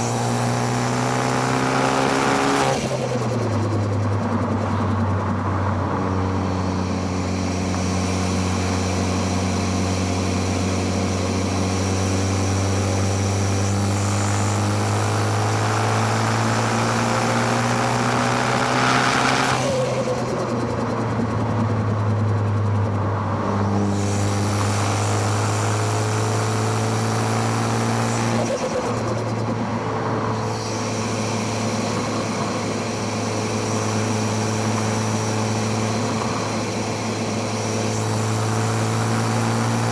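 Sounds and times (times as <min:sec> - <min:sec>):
car engine revving under load: 0:00.0 - 0:39.9.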